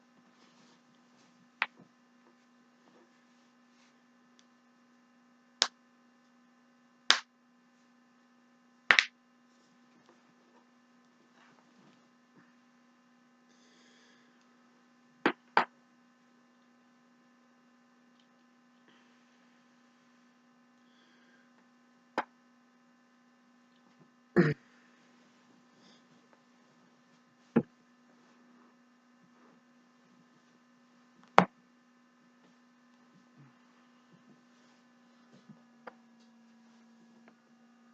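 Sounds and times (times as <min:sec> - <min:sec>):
low electrical hum: 0:00.0 - 0:37.9.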